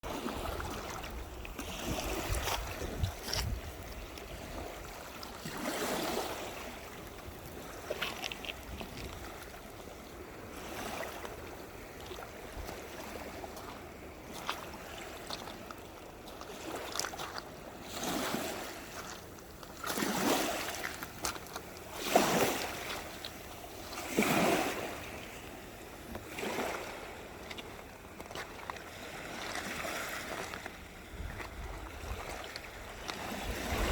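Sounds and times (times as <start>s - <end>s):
small sea waves washing in: 0.0s - 33.9s.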